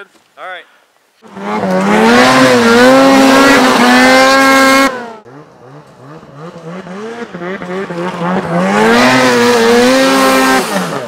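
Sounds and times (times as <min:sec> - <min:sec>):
quieter engine throttle bursts: 0:01.2 - 0:11.0
snowmobile engine revving: 0:01.2 - 0:11.0.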